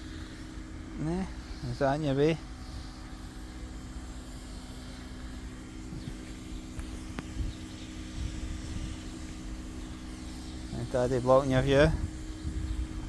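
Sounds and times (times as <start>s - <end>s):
pressure washer humming: 0.0s - 13.0s.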